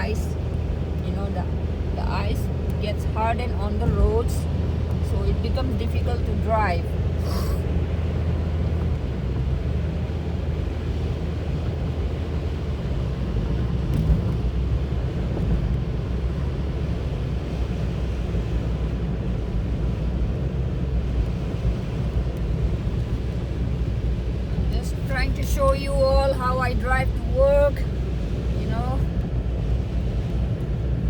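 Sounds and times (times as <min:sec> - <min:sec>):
car cabin road and engine rumble: 0:00.0 - 0:31.0
tyres on icy road: 0:00.0 - 0:31.0.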